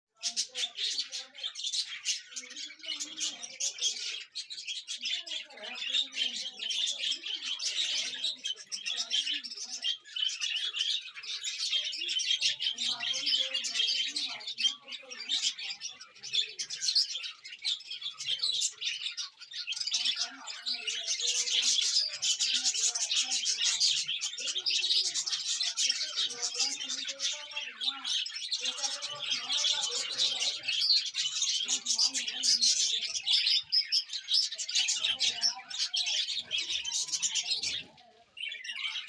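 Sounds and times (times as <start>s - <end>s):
small birds chirping and twittering: 0.0s - 39.0s.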